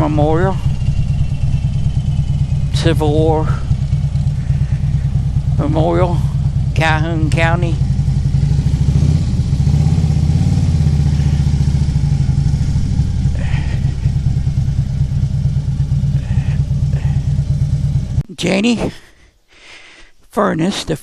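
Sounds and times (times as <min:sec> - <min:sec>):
vehicle engine droning: 0:00.0 - 0:18.3.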